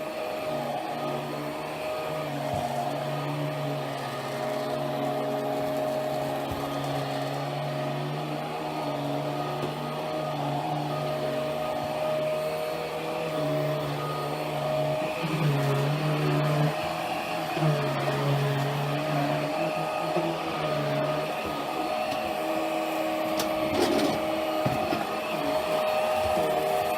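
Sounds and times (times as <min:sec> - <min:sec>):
vacuum cleaner motor hum: 0:00.0 - 0:26.9.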